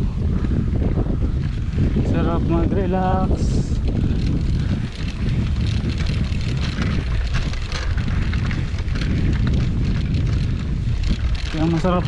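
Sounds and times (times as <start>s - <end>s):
bicycle rattling and ticking: 0.0s - 12.0s
wind buffeting microphone: 0.0s - 12.0s.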